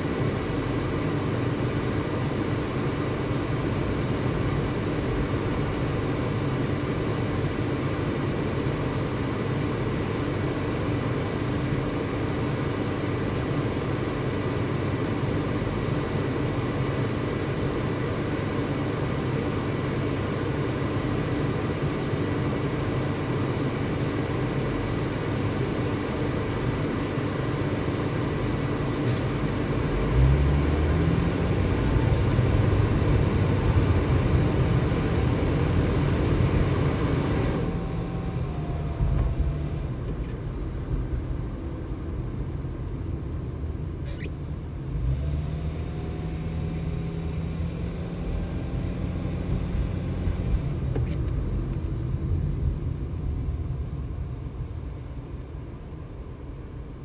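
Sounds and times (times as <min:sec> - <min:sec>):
car engine and road hum: 0:00.0 - 0:57.0.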